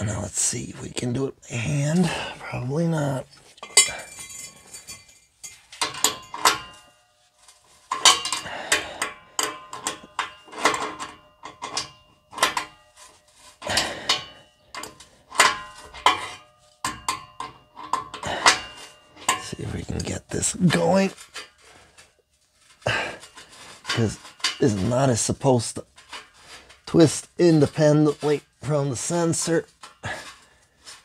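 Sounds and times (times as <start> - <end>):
wrench clinking on metal: 3.5 - 7.1, 7.9 - 21.6, 22.9 - 30.4.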